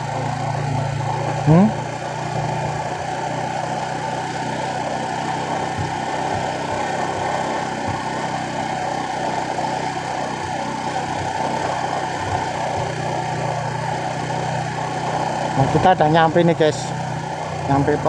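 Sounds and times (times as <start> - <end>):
motorcycle engine running steadily: 0.0 - 18.0.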